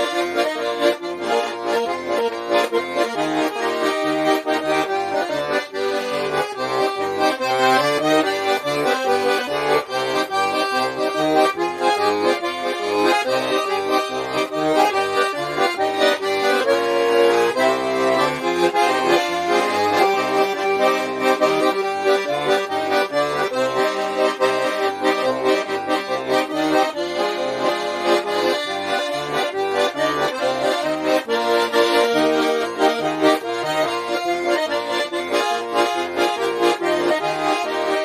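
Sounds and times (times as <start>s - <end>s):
button accordion folk tune: 0.0s - 38.0s.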